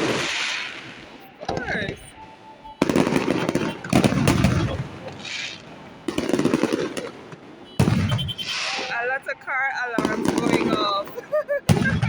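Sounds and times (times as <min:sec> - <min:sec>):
fireworks shells booming and crackling: 0:00.0 - 0:12.0.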